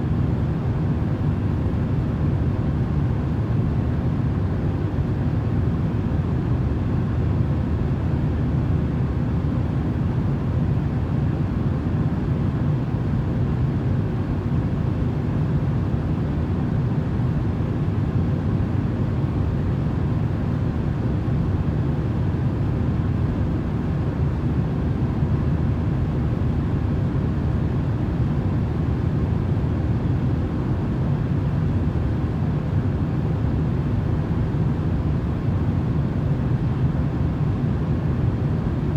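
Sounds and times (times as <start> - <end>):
airplane cabin drone: 0.0 - 38.9
faint steady hum: 0.0 - 38.9.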